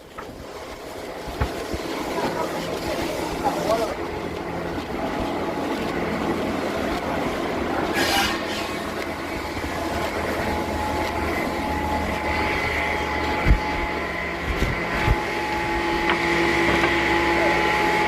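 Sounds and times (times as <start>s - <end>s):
sawmill machinery running: 0.0s - 18.0s
steady machine whine: 0.0s - 18.0s.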